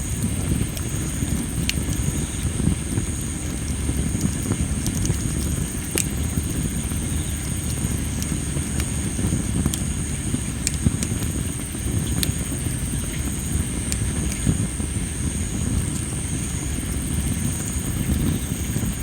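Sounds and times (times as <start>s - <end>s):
campfire crackling and popping: 0.0s - 19.0s
insects trilling: 0.0s - 19.0s
low rumble of fire: 0.0s - 19.0s.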